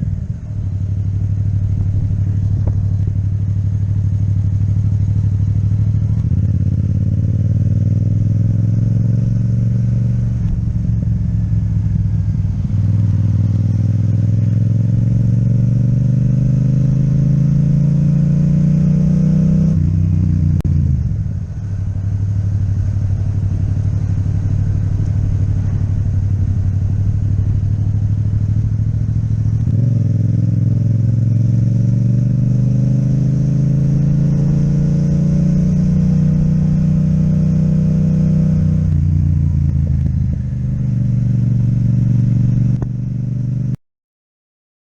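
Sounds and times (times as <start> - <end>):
motorcycle engine accelerating: 0.0 - 43.8.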